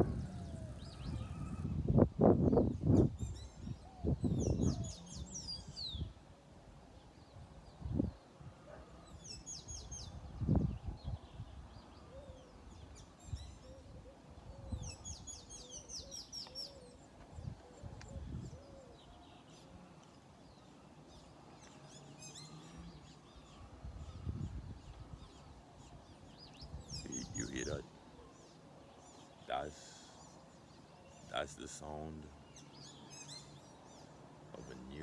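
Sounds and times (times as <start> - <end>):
small songbirds chirping: 0.0 - 35.0.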